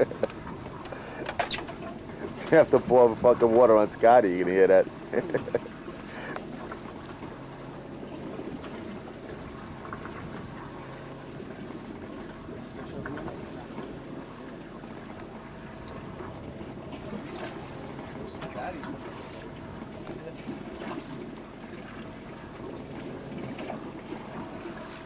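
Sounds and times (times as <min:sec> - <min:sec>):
boat engines humming: 0:00.0 - 0:25.0
water wash: 0:00.0 - 0:25.0.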